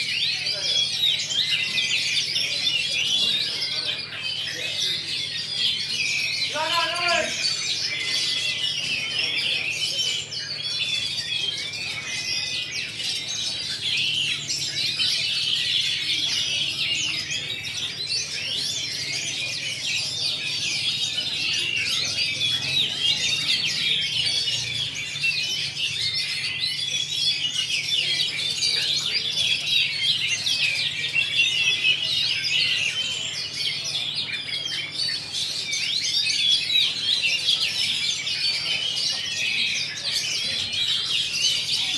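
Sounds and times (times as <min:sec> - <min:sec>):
chorus of birds singing: 0:00.0 - 0:41.9.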